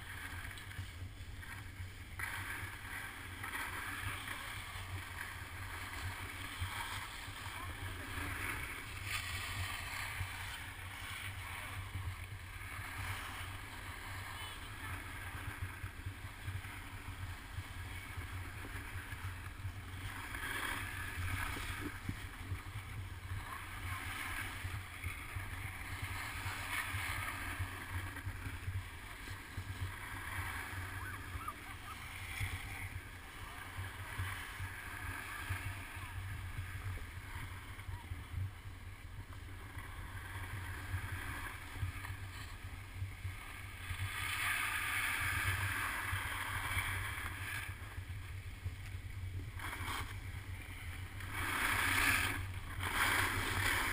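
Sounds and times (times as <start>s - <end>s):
skis scraping on packed snow: 0.0s - 53.9s.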